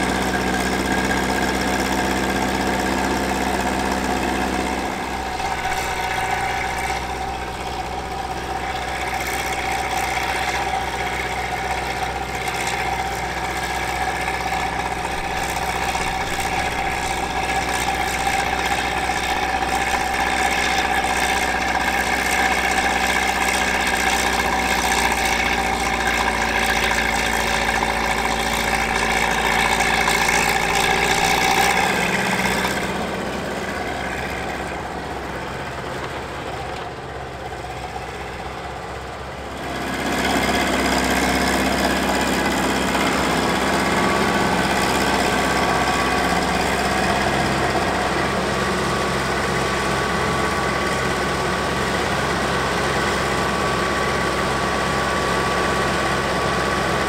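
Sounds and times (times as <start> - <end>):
earthmoving machine engine running: 0.0 - 57.0.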